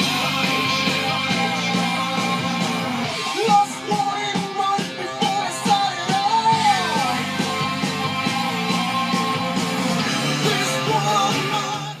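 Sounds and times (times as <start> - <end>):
rock music with guitars: 0.0 - 12.0.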